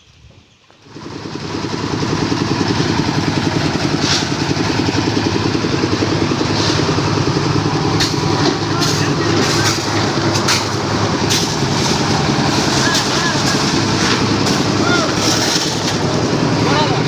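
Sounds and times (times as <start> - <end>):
machinery engine running: 0.8 - 17.0.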